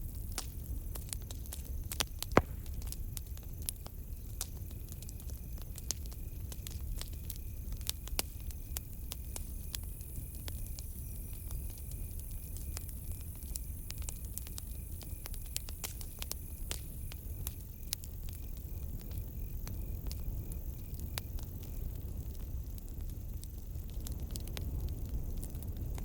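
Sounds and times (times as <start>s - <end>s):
campfire crackling and popping: 0.0s - 26.0s
cricket chirping: 0.0s - 26.0s.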